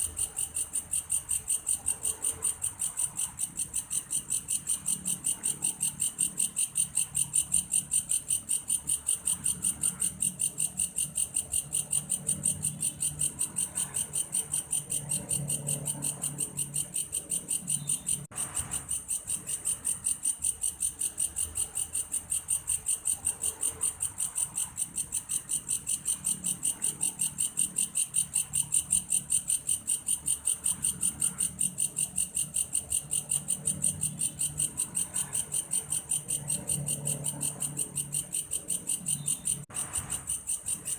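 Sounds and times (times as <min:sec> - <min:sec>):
insect chirping: 0:00.0 - 0:40.9.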